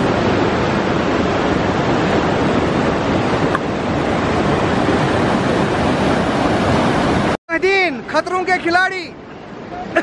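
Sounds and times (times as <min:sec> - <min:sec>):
stream rushing over boulders: 0:00.0 - 0:10.0.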